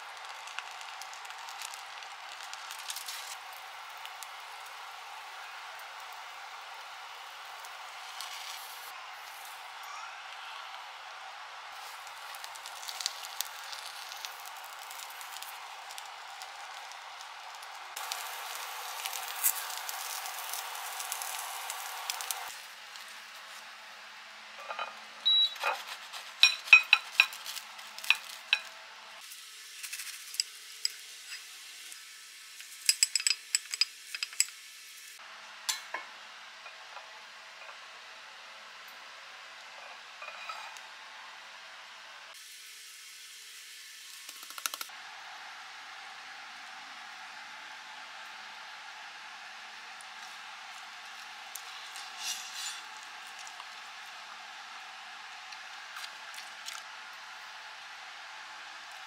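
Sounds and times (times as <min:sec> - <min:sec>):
food sizzling in a skillet: 0:00.0 - 0:10.0, 0:10.6 - 0:23.8, 0:25.6 - 0:38.5, 0:42.3 - 0:59.0.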